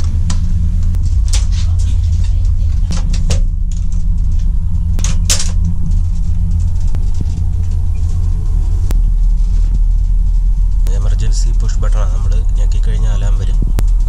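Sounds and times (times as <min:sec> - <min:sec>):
sharp clicks and rattles: 0:00.0 - 0:14.0
train rumble inside carriage: 0:00.0 - 0:14.0.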